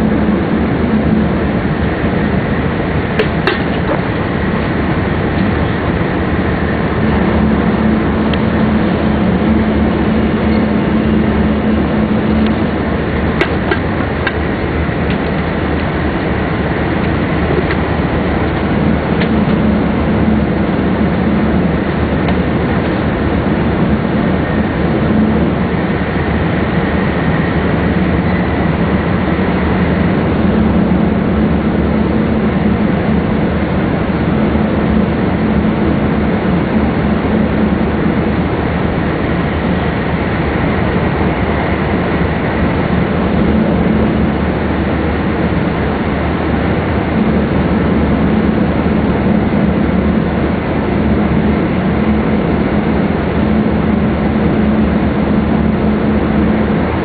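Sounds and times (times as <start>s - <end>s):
train running rumble and hum: 0.0s - 57.0s.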